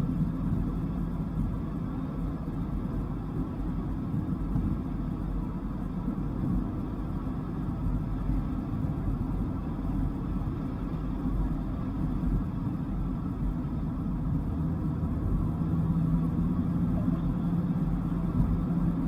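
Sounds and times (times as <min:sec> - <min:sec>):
car engine low rumble: 0:00.0 - 0:19.0
road noise: 0:00.0 - 0:19.0.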